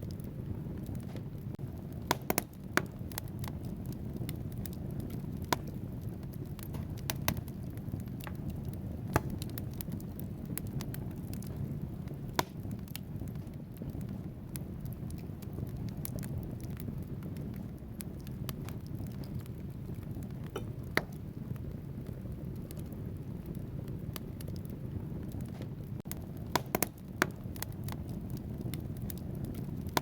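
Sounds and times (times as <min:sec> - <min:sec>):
fire flames rumbling: 0:00.0 - 0:30.0
logs crackling and popping: 0:00.0 - 0:30.0.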